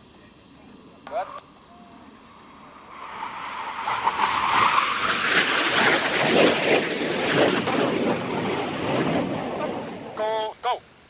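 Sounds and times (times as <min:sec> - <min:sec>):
jet aircraft roaring: 0:00.0 - 0:10.6.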